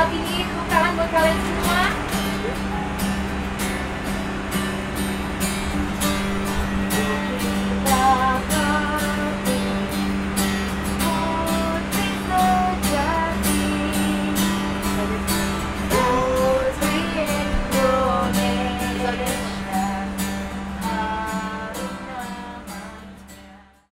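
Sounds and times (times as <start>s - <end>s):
strummed acoustic guitar music: 0.0s - 23.9s.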